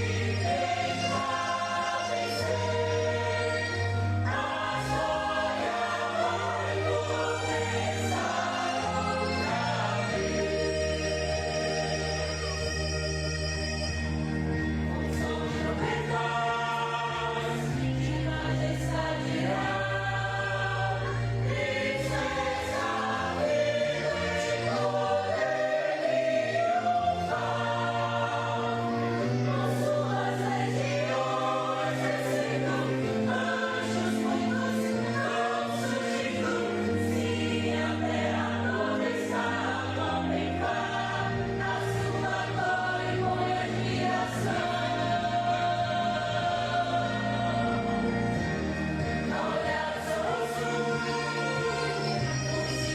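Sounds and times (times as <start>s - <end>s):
choir singing a hymn: 0.0s - 52.9s
instrumental accompaniment: 0.0s - 52.9s.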